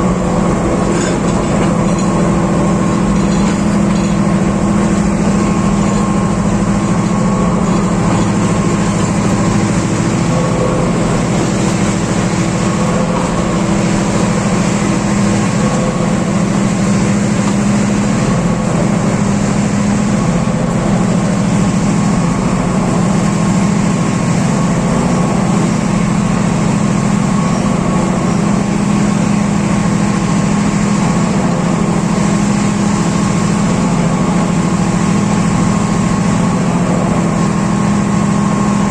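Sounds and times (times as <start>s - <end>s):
locomotive engine running loud: 0.0s - 38.9s.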